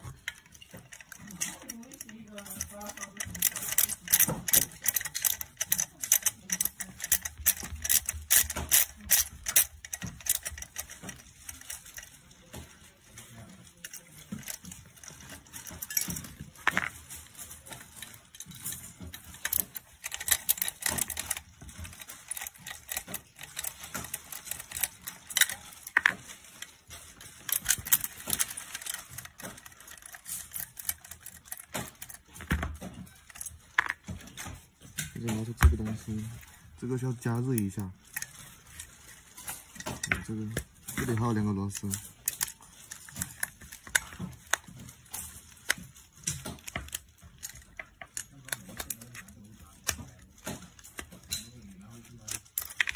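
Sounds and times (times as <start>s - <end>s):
metal parts rattling: 0.0s - 52.9s.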